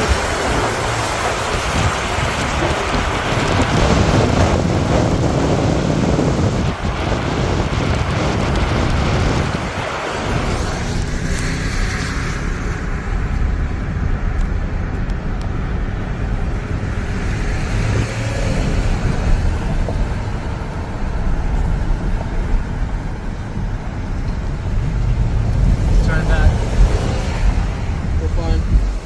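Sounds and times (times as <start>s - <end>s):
car road and wind noise: 0.0s - 29.0s.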